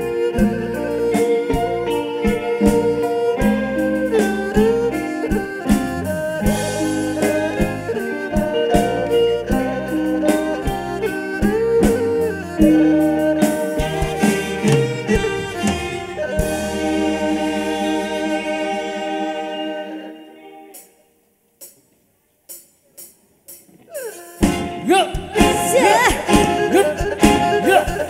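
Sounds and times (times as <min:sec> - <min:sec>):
live folk band playing: 0:00.0 - 0:21.0, 0:24.2 - 0:28.0.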